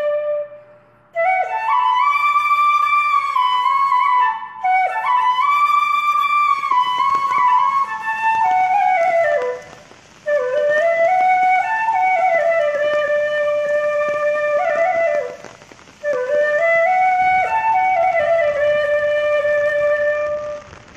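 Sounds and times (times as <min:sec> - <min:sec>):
solo flute melody: 0:00.0 - 0:20.9.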